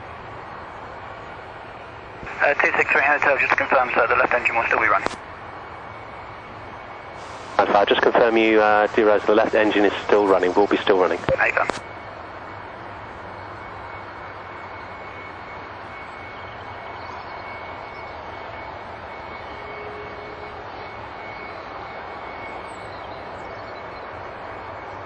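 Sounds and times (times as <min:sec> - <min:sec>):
jet engine idling: 0:00.0 - 0:25.0.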